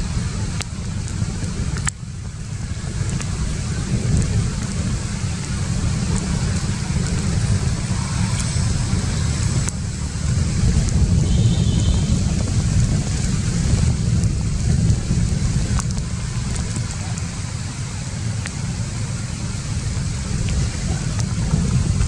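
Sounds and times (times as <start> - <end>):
outdoor background rumble and hiss: 0.0 - 22.0.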